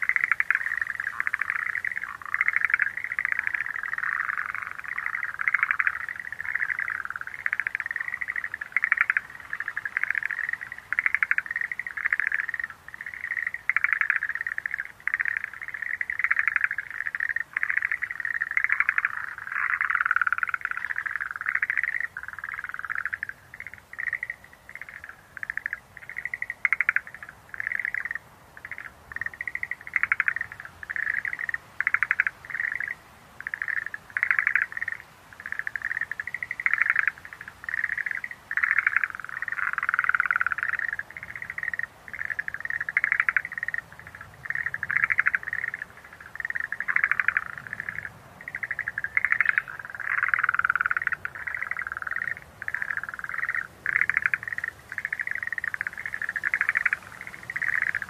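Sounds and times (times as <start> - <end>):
tree frogs calling: 0.0 - 58.0.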